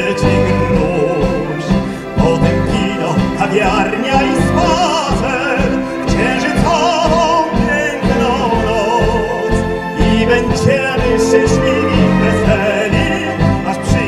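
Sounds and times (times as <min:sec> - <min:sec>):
man singing operatically: 0:00.0 - 0:14.0
orchestral and band accompaniment: 0:00.0 - 0:14.0.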